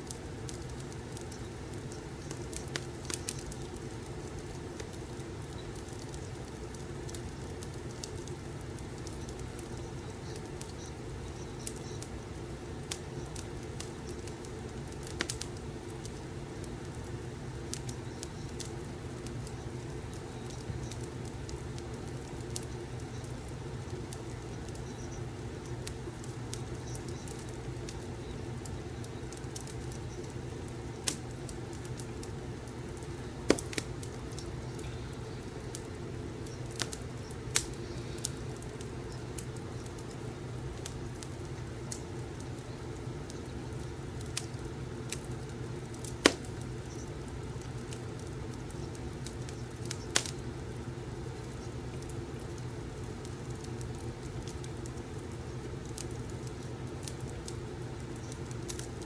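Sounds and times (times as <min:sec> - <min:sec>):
low steady hum: 0:00.0 - 0:59.0
wood fire crackling: 0:00.0 - 0:59.0.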